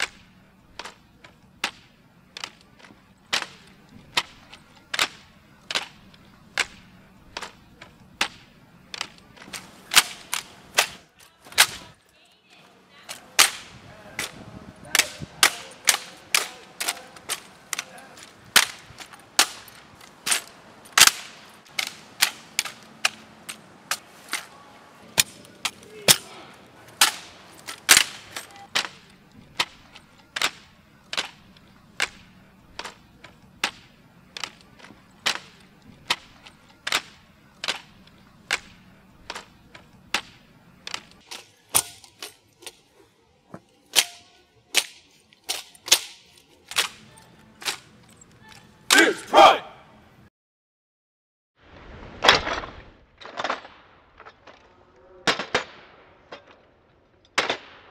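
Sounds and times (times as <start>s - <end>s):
hands slapping rifle stocks: 0.0s - 12.0s, 13.1s - 42.9s, 43.5s - 48.2s.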